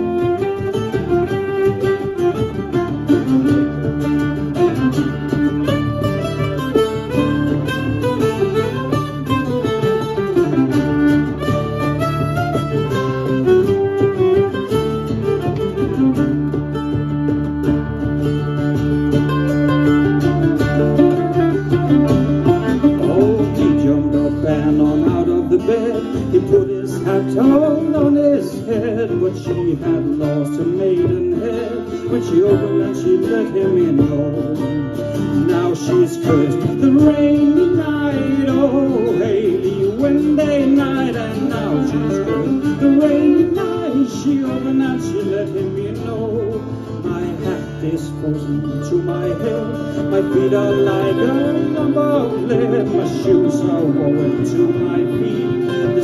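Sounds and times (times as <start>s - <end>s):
bodhran beating: 0.0s - 56.0s
fiddle playing ornamented melody: 0.0s - 56.0s
strummed acoustic guitar: 0.0s - 56.0s.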